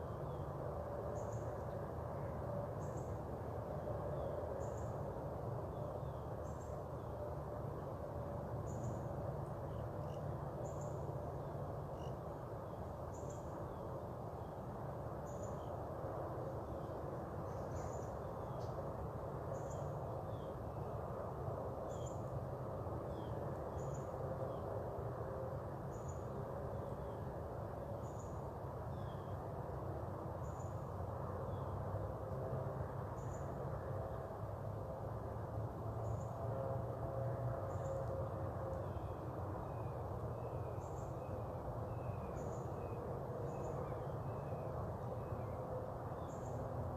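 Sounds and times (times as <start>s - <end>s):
low background hum: 0.0s - 46.9s.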